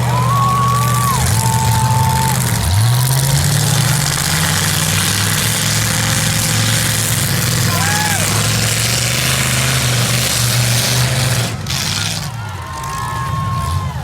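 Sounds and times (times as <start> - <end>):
big car engines running: 0.0 - 14.0.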